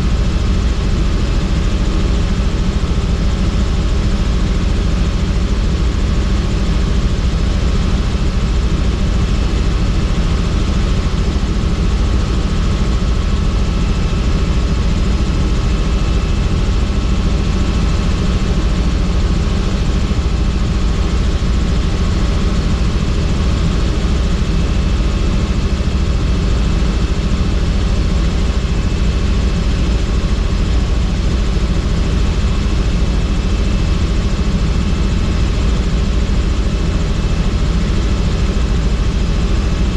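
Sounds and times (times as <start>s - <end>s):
helicopter engine drone: 0.0s - 39.9s
helicopter rotor chop: 0.0s - 39.9s.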